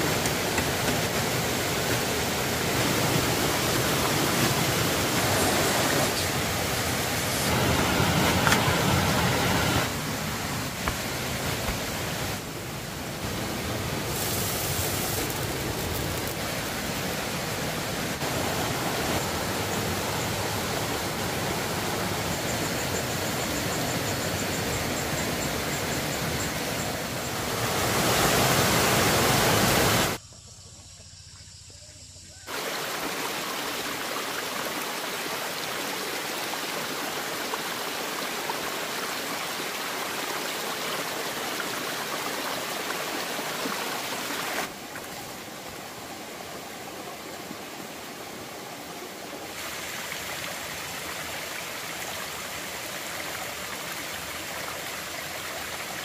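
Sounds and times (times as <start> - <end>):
running water rushing: 0.0 - 30.2, 32.5 - 56.0.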